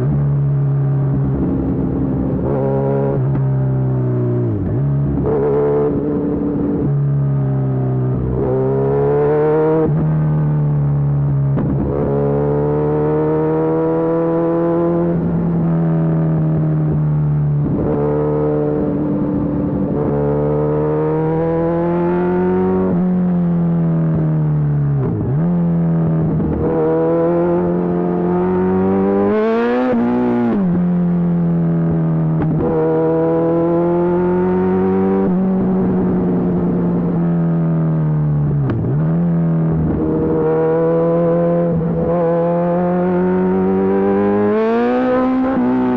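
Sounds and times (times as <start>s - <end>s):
motorcycle engine cruising: 0.0s - 45.9s.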